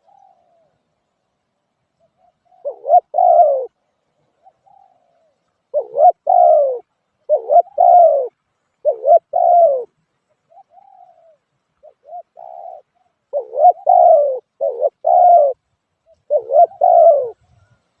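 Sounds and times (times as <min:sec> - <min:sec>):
dove cooing: 0:00.0 - 0:00.9, 0:02.0 - 0:17.9.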